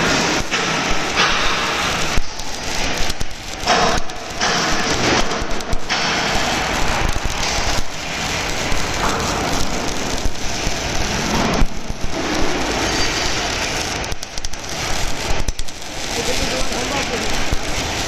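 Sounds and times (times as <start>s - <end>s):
welding arc crackling: 0.0s - 18.0s.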